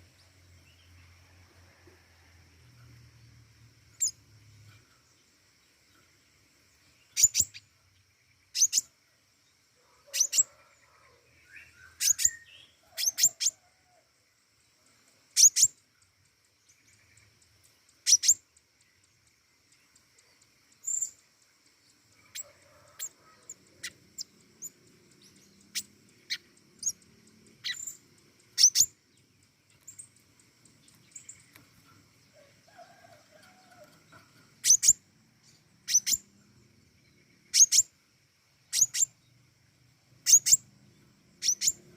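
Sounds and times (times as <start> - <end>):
faint high-pitched hum: 0.0 - 41.9
songbird high chirps: 0.0 - 41.9.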